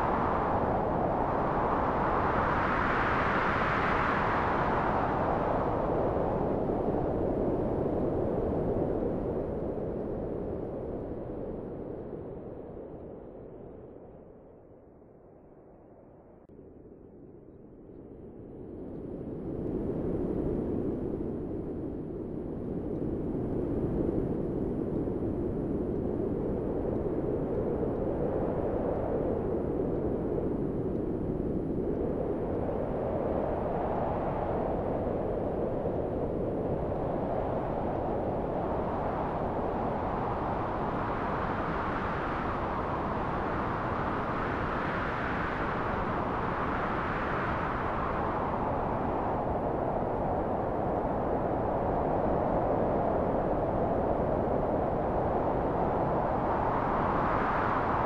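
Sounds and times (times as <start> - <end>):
low rushing wind: 0.0 - 58.0.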